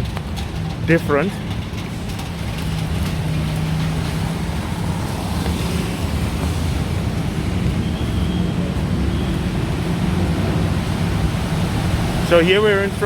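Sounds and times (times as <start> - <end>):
street noise: 0.0 - 13.0
vehicle engines humming: 0.0 - 13.0.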